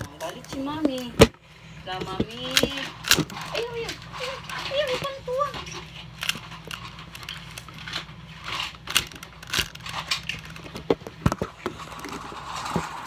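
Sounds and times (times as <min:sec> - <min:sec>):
puzzle cube plastic clicks: 0:02.0 - 0:13.0.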